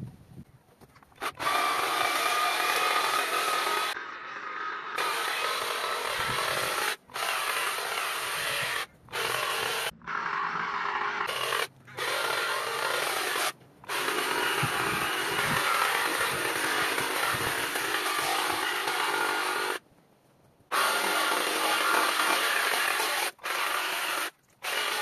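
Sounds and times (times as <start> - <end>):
hedge trimmer cutting: 1.2 - 4.0, 4.6 - 19.8, 20.7 - 25.0.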